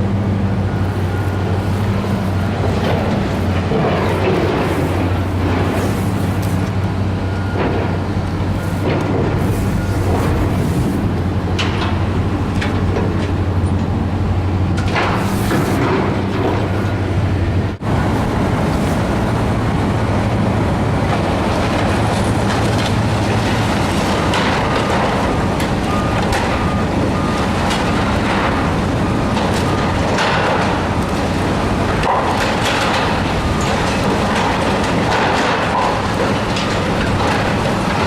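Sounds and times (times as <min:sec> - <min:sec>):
demolition machinery running: 0:00.0 - 0:38.0
steel and debris crunching: 0:00.0 - 0:38.0.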